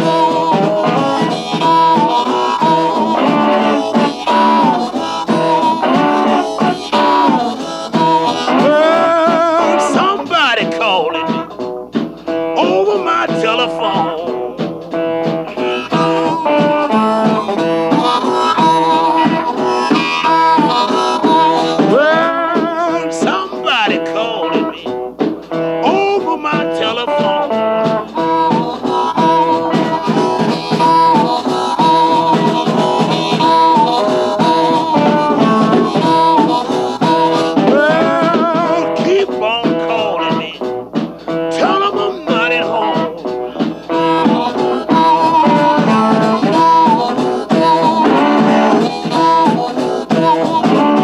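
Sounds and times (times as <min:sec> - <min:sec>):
guitar accompaniment: 0:00.0 - 0:51.0
harmonica with bent notes: 0:00.0 - 0:51.0.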